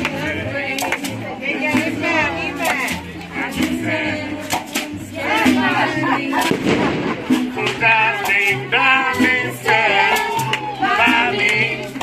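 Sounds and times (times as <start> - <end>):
plucked upright double bass: 0.0 - 12.0
drum kit keeping time: 1.7 - 11.5.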